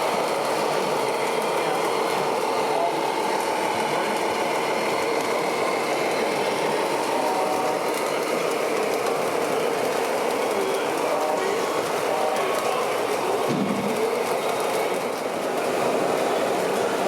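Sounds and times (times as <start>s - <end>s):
murmur of voices: 0.0s - 17.0s
toy truck electric motors running: 0.0s - 17.0s.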